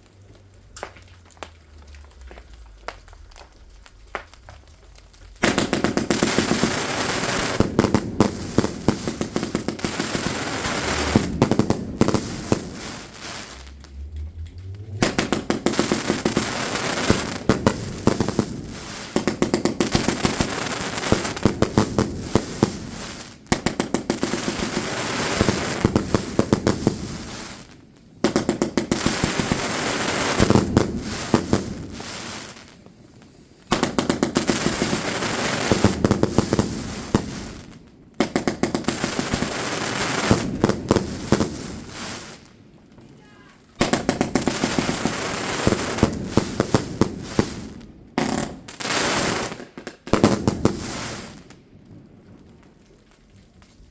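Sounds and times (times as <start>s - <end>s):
fireworks bangs: 0.0s - 52.5s
fireworks crackling: 0.0s - 53.9s.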